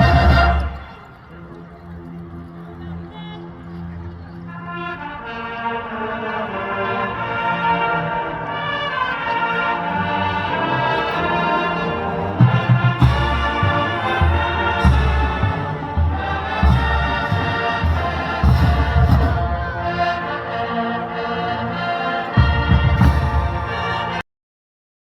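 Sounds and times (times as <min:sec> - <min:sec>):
orchestral music led by brass: 0:00.0 - 0:24.2.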